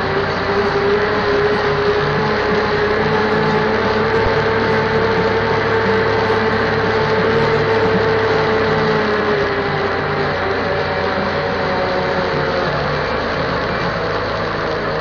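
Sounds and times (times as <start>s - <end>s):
steady whine: 0.0s - 15.0s
tractor engine running: 0.0s - 15.0s.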